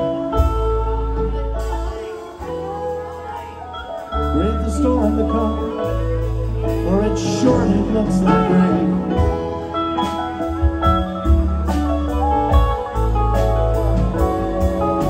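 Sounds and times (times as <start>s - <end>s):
live band playing: 0.0s - 15.0s
pedal steel guitar gliding notes: 0.0s - 15.0s
steady bass line: 0.0s - 15.0s.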